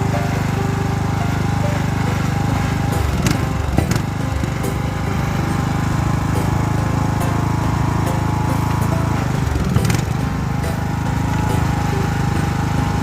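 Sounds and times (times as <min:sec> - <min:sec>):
small gasoline engine running: 0:00.0 - 0:13.0.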